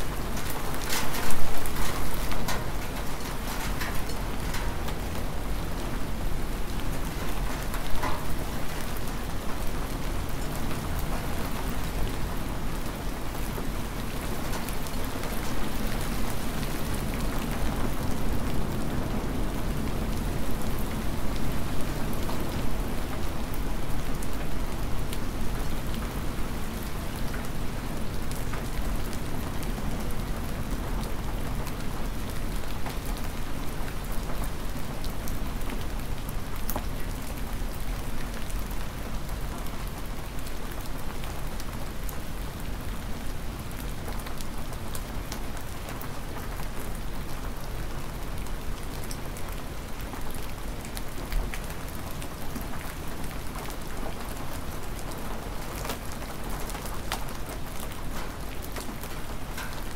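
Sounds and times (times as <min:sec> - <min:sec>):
hard rain falling: 0:00.0 - 0:59.9.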